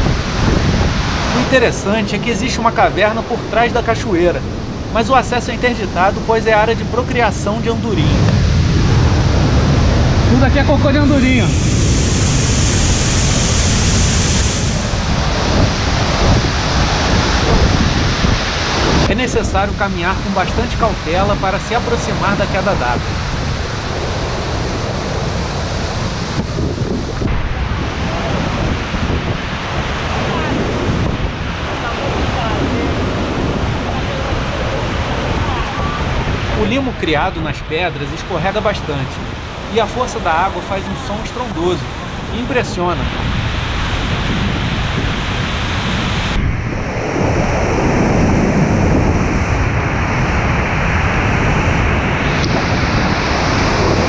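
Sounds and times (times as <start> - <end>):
wind buffeting microphone: 0.0 - 37.9, 39.0 - 54.0
waterfall rushing: 0.0 - 44.2.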